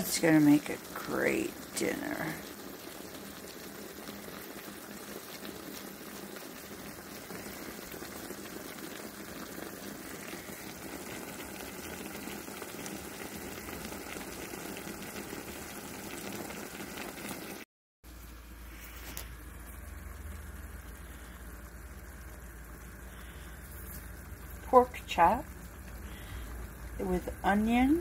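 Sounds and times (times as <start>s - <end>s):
meat and onions sizzling in pan: 0.0s - 28.0s.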